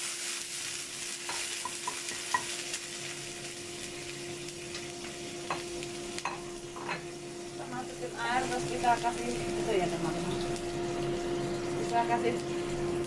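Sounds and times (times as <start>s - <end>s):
water sizzling in hot wok: 0.0s - 13.0s.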